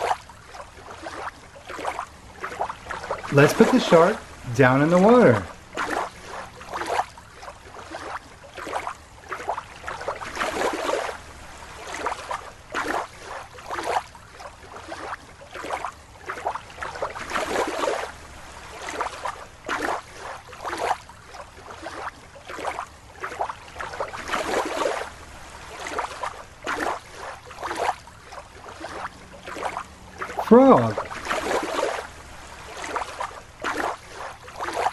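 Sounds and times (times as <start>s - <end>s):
water bubbling and sloshing: 0.0s - 34.9s.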